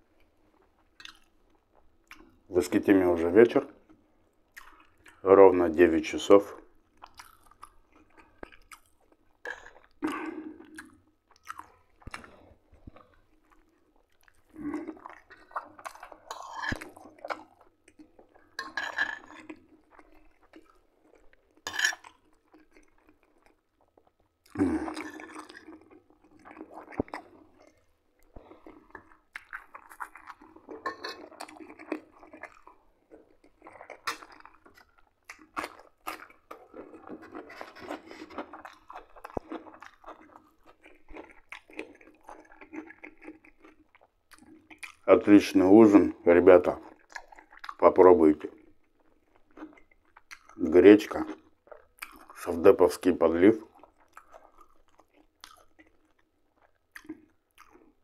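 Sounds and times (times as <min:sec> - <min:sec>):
chewing with wet mouth noises: 0:00.0 - 0:58.0.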